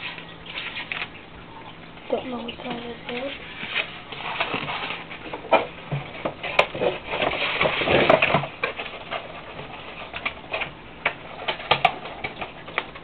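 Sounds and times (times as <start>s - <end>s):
cardboard and foam rustling: 2.1s - 13.0s.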